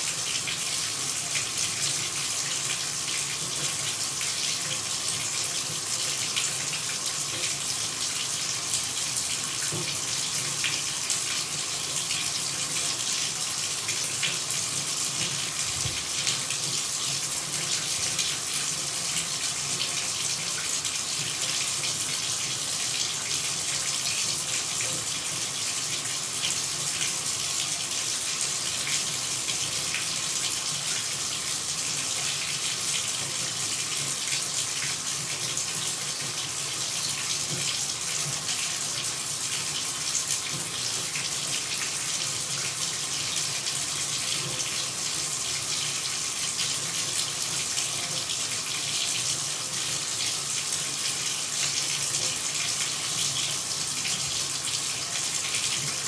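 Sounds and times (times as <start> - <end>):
water pouring and splashing: 0.0 - 56.0.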